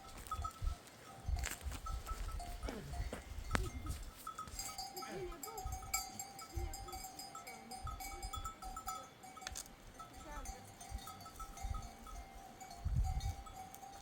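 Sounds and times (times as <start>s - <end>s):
animal bells clinking: 0.0s - 14.0s.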